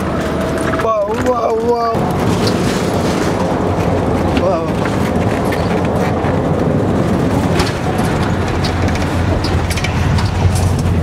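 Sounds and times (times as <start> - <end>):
road and engine rumble in cabin: 0.0 - 11.0.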